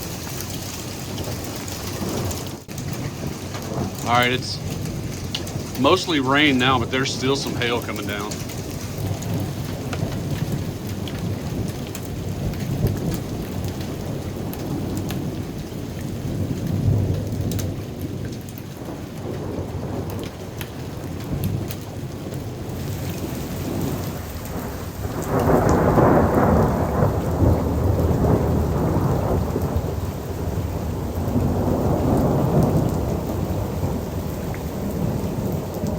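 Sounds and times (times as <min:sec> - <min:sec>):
hailstones ticking: 0:00.0 - 0:35.9
heavy rain falling: 0:00.0 - 0:35.9.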